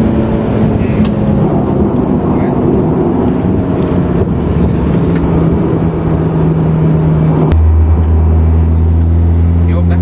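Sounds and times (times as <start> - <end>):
car engine droning: 0.0 - 10.0
road noise: 0.0 - 10.0.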